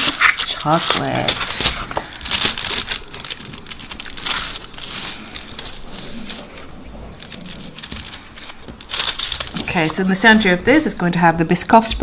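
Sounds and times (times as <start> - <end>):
foil wrapper crinkling: 0.0 - 10.1.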